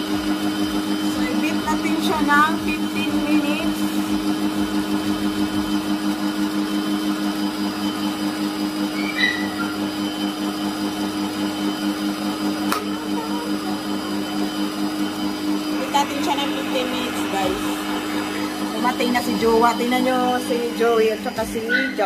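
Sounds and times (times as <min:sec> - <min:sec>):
stand mixer motor humming: 0:00.0 - 0:22.0.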